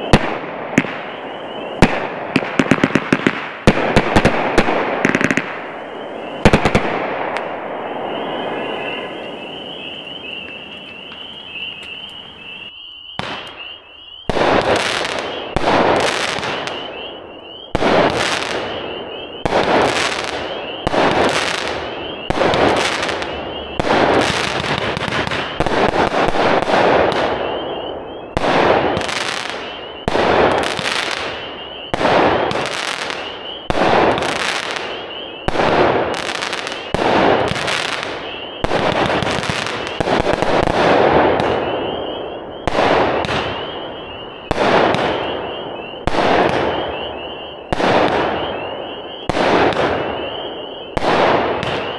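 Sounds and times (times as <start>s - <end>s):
firework crackle: 0.0s - 13.6s, 17.7s - 27.7s, 28.3s - 47.0s
firework shots: 0.0s - 51.9s.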